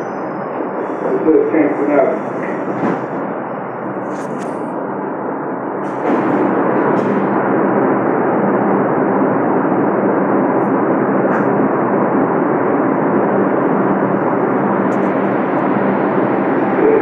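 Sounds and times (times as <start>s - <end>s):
low hum: 0.0s - 17.0s
subway car rumble: 0.0s - 17.0s.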